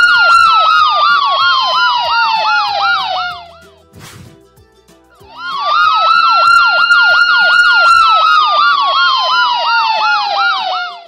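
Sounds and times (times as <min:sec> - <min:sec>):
ambulance siren yelping: 0:00.0 - 0:03.6, 0:05.2 - 0:11.0.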